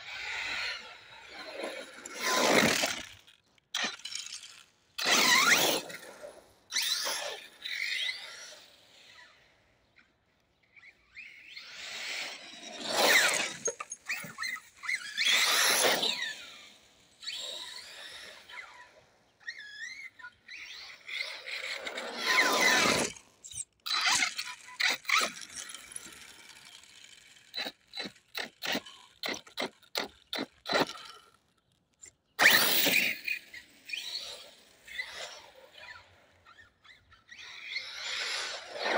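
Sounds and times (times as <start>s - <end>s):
short sharp motor bursts and skids: 0.0s - 9.5s, 10.6s - 31.4s, 32.3s - 38.9s
rc truck motor whine: 0.0s - 38.9s.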